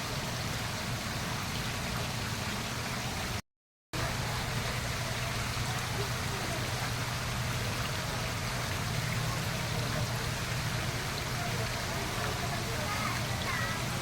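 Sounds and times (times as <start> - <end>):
rushing water: 0.0 - 3.4, 4.0 - 14.0.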